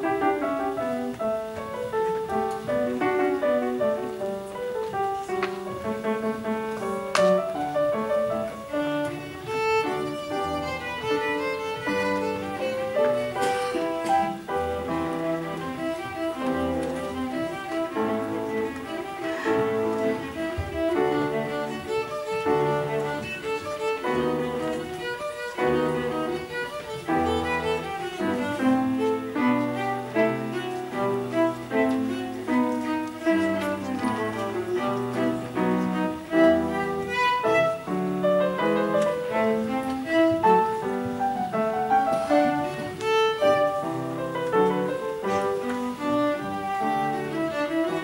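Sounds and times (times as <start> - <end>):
grand piano accompaniment: 0.0 - 48.0
violin melody: 0.0 - 48.0.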